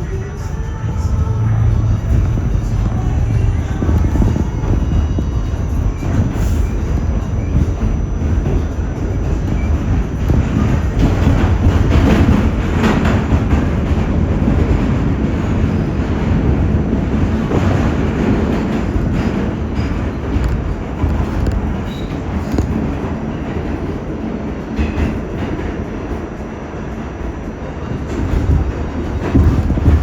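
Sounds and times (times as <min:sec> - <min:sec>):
subway train wheels rumbling on rail: 0:00.0 - 0:30.0.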